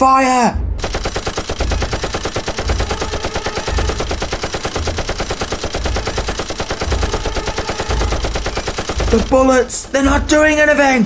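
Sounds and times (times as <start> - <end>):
automatic gunfire: 0.8 - 10.7.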